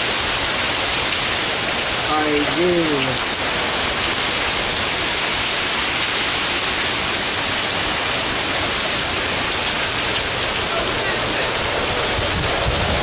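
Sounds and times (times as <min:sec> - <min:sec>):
heavy rain: 0:00.0 - 0:13.0
strong wind: 0:00.0 - 0:13.0.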